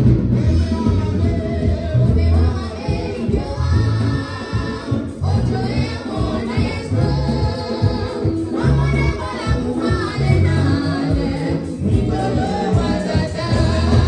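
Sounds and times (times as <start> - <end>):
choir singing gospel: 0.0 - 14.0
heavy bass line: 0.0 - 14.0
live band playing: 0.0 - 14.0.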